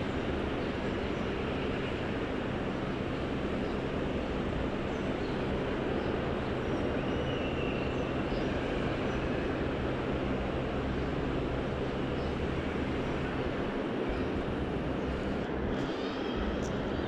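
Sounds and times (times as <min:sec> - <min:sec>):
faint high whine: 0:00.0 - 0:17.0
low mechanical rumble and hum: 0:00.0 - 0:17.0.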